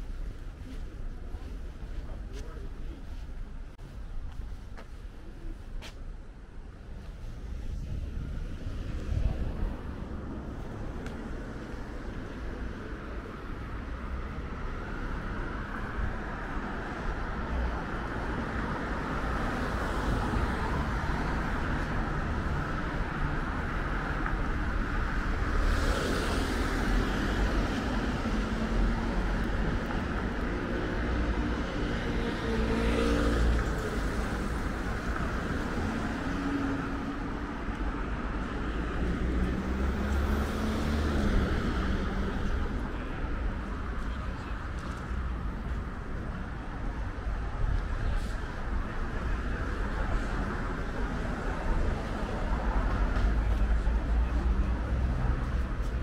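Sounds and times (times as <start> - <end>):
cars driving past: 7.8 - 56.0.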